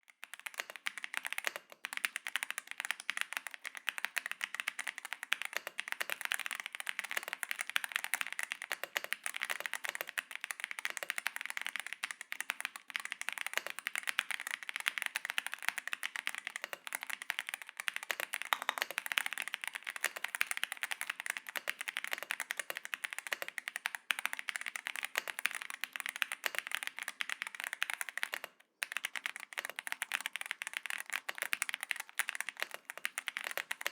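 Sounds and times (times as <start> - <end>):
fast keyboard typing: 0.1 - 33.9.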